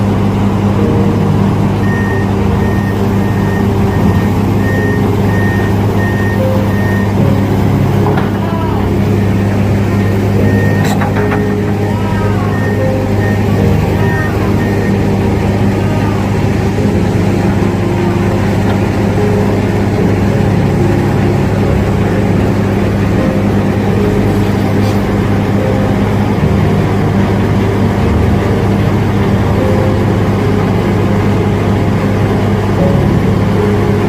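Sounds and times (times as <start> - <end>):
heavy machinery engine humming: 0.0 - 34.0.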